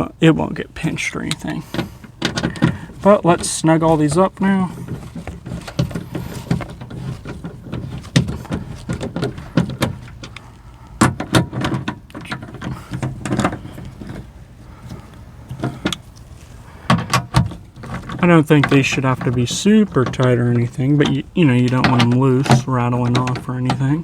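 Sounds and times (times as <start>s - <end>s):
metal clicks and scrapes: 1.2s - 24.0s.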